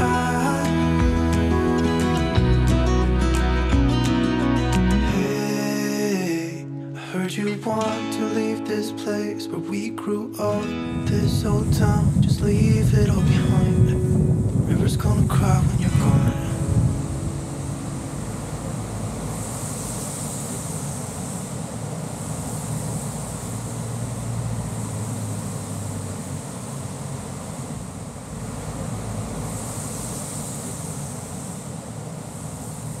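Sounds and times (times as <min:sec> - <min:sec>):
low vehicle rumble: 0:00.0 - 0:07.0, 0:10.7 - 0:33.0
constant hiss: 0:00.0 - 0:33.0.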